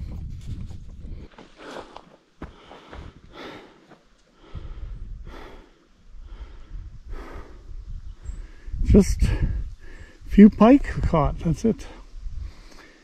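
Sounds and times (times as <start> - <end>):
man breathing and sighing: 1.0 - 10.3, 11.8 - 13.0.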